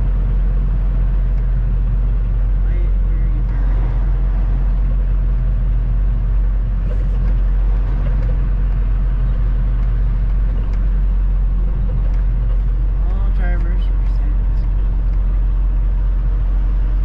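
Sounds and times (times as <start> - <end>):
road noise: 0.0 - 17.0
truck engine rumbling: 0.0 - 17.0.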